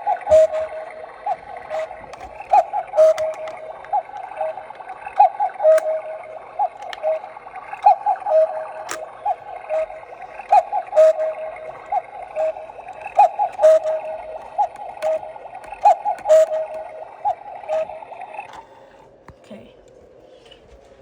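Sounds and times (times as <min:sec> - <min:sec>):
electronic cuckoo call: 0:00.0 - 0:18.8.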